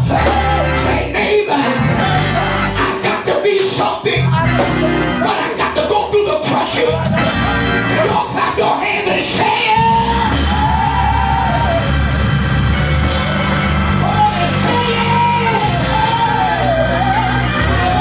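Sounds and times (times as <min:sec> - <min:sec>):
person singing: 0:00.0 - 0:12.2, 0:13.1 - 0:18.0
church band playing: 0:00.0 - 0:18.0.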